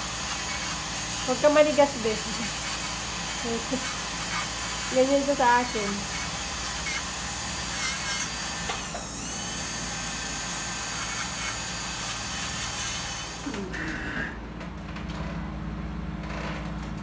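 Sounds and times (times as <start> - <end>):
dental drill whine: 0.0 - 14.4.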